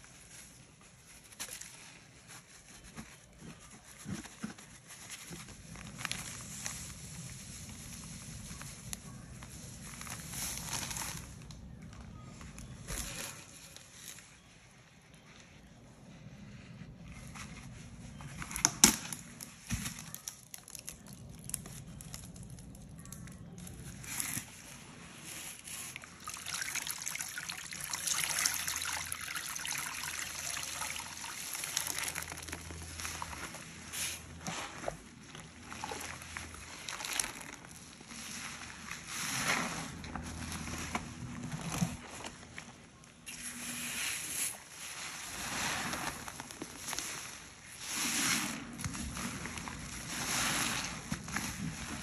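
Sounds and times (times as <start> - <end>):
wet sponges squeezed and sloshed: 0.0 - 52.0.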